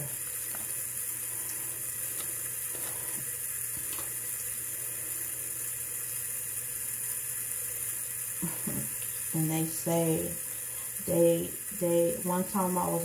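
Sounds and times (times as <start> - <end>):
water tap running: 0.0 - 13.0.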